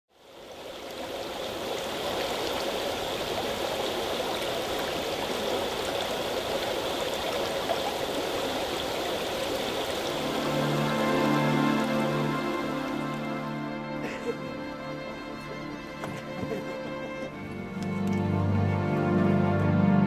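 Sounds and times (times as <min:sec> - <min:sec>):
stream running: 0:00.1 - 0:20.0.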